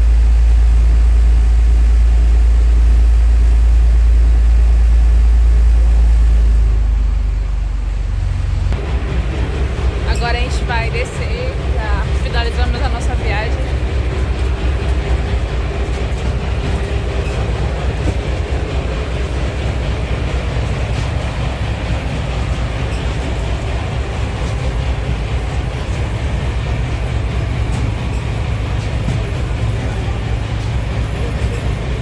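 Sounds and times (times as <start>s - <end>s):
motorboat engine rumbling: 0.0s - 32.0s.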